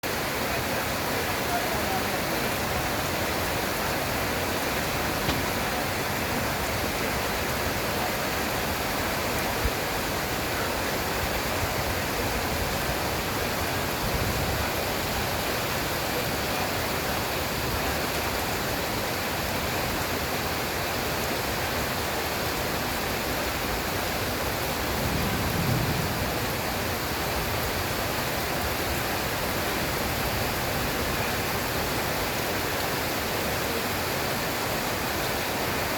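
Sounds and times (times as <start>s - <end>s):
heavy rain: 0.0s - 35.9s.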